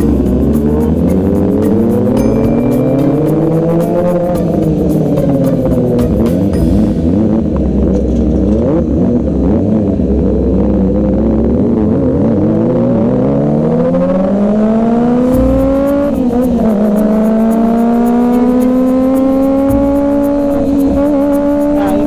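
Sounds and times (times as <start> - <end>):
motorcycle engine accelerating hard: 0.0 - 22.0.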